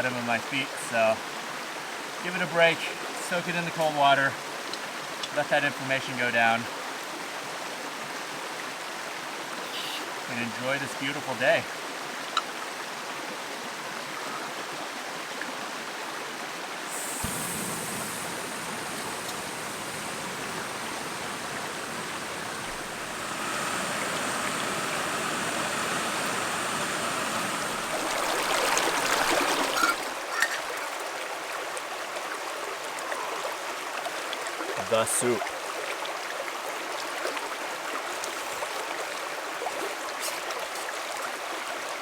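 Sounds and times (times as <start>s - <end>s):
stream water flowing: 0.0s - 42.0s.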